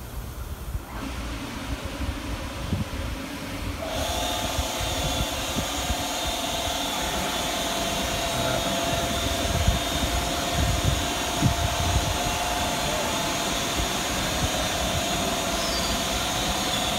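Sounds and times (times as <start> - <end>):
motor whine with hiss: 0.0 - 16.9.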